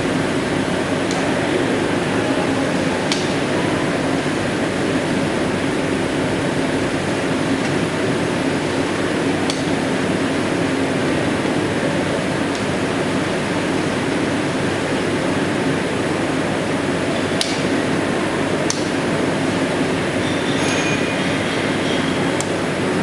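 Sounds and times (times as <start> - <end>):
factory machinery hissing and humming: 0.0 - 23.0.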